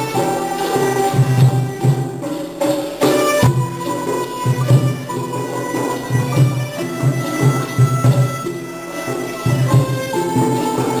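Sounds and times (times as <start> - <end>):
folk melody of long held notes: 0.0 - 11.0.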